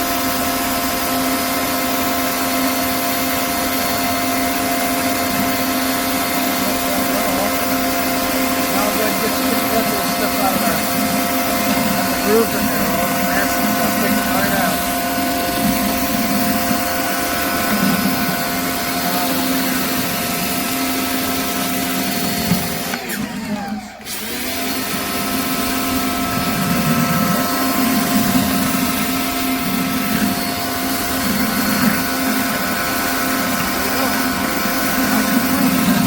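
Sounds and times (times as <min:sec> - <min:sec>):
pressure washer hum: 0:00.0 - 0:36.0.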